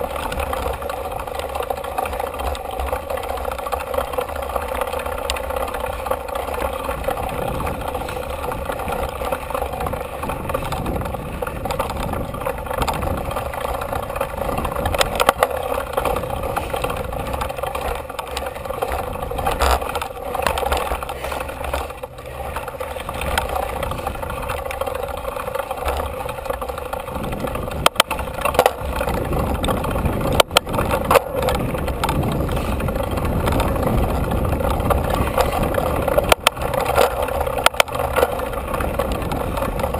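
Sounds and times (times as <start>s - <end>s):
bike knocking over bumps: 0.0s - 39.9s
bike tyre and rattle noise: 0.0s - 39.9s.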